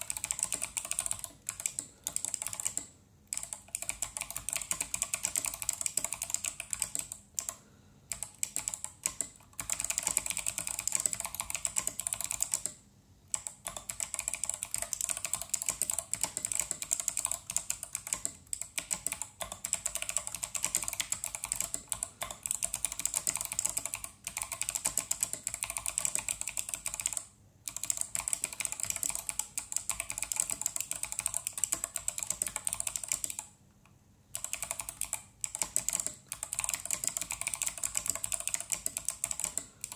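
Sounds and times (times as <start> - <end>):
fast mechanical keyboard typing: 0.0 - 33.5, 34.3 - 39.9.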